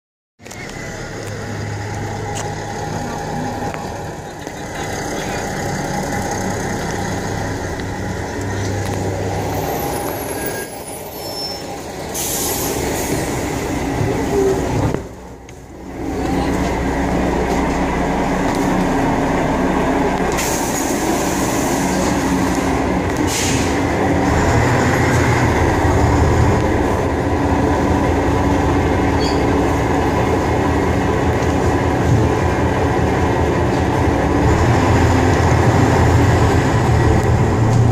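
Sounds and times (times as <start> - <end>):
bus diesel engine running: 0.4 - 37.9.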